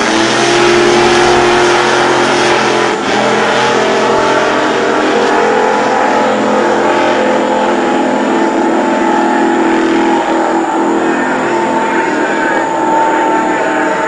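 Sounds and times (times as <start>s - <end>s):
racing boat engine running: 0.0s - 14.0s.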